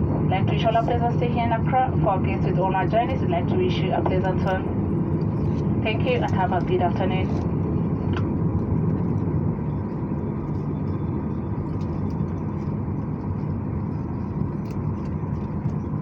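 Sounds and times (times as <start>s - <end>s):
faint steady whine: 0.0s - 16.0s
low rumble of idling engines: 0.0s - 16.0s.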